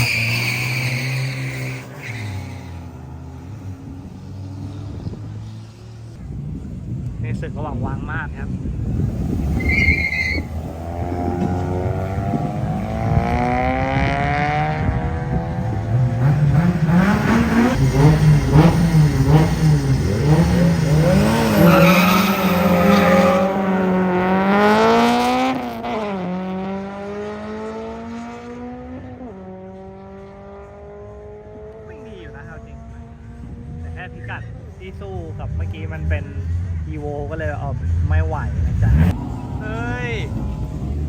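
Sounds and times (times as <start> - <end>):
race car engines: 0.0 - 41.0.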